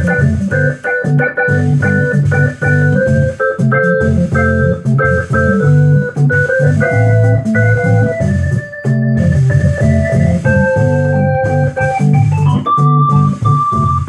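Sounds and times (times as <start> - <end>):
organ playing rhythmic chords: 0.0 - 14.0.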